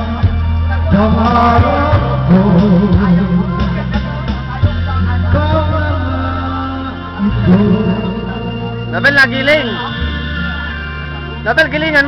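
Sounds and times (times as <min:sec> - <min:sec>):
man singing karaoke: 0:00.0 - 0:10.1
loud backing track: 0:00.0 - 0:12.0.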